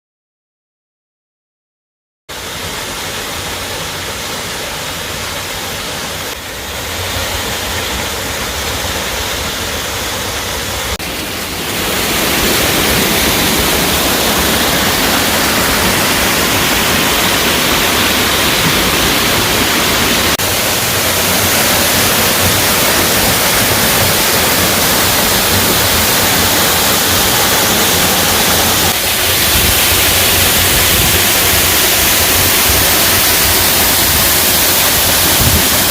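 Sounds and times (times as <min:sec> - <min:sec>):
waterfall rushing: 0:02.3 - 0:35.9.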